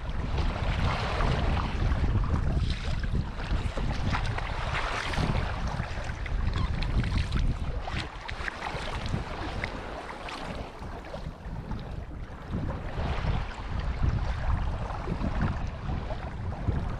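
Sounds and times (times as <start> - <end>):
water splashing against hull: 0.0 - 16.9
wind buffeting microphone: 0.0 - 16.9.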